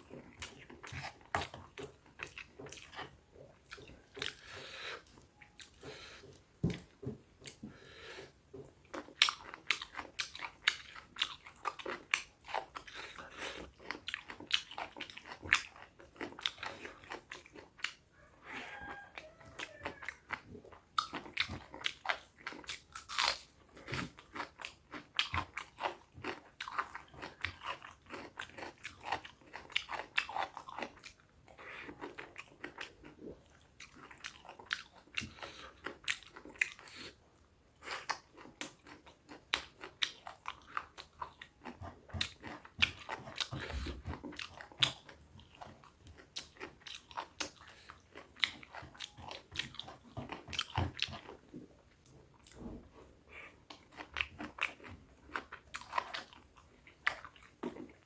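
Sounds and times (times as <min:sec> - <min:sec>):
crunchy chewing: 0:00.0 - 0:07.7, 0:08.6 - 0:58.0
wet chewing: 0:00.0 - 0:07.8, 0:08.5 - 0:58.0.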